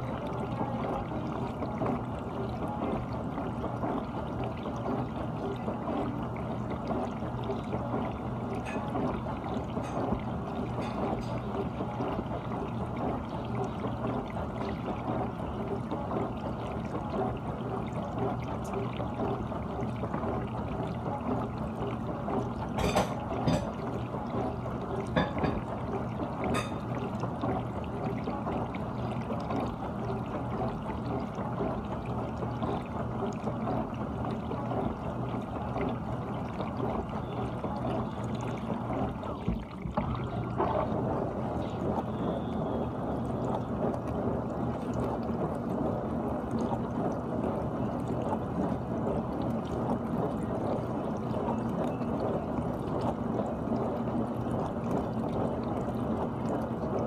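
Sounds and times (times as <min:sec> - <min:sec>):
dishwasher water splashing: 0:00.0 - 0:57.0.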